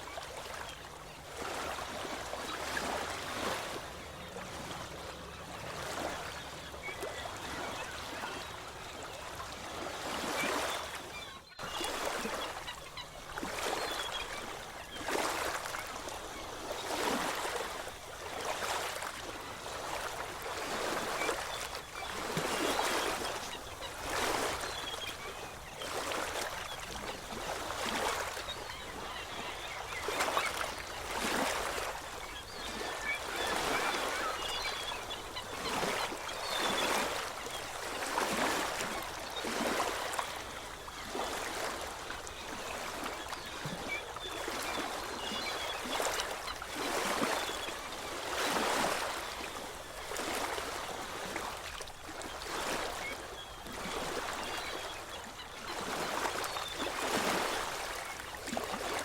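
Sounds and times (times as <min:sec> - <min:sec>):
small waves washing: 0:00.0 - 0:59.0.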